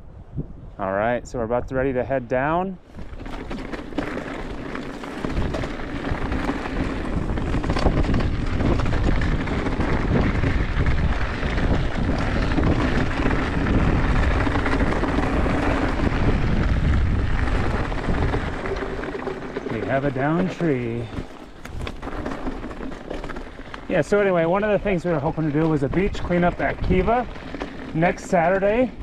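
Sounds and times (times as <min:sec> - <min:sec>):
wind buffeting microphone: 0:00.0 - 0:29.0
mountain bike rattling downhill: 0:02.5 - 0:29.0.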